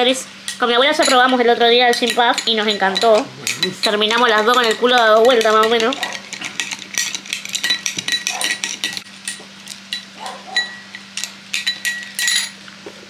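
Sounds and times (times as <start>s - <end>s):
metal spoon clinking in a glass: 0.5s - 1.2s, 1.9s - 12.6s.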